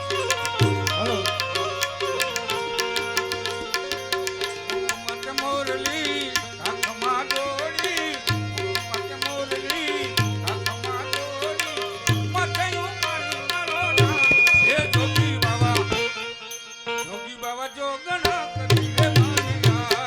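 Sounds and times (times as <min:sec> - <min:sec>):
tabla drumming: 0:00.0 - 0:16.2, 0:18.2 - 0:20.0.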